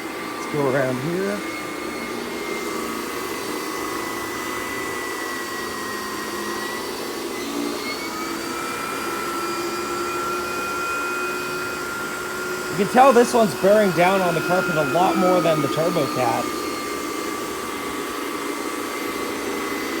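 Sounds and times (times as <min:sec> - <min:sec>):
powerhead brushing carpet: 0:00.0 - 0:20.0
vacuum cleaner running: 0:00.0 - 0:20.0.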